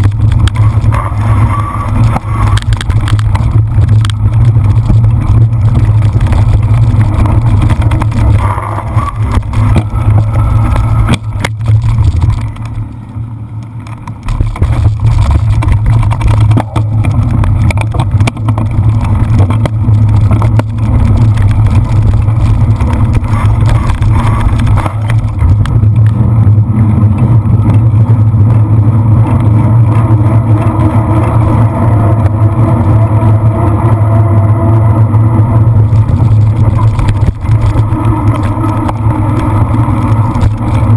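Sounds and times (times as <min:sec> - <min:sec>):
bike rattling clicks and knocks: 0:00.0 - 0:32.8, 0:35.5 - 0:40.9
wind rumbling over microphone: 0:00.0 - 0:40.9.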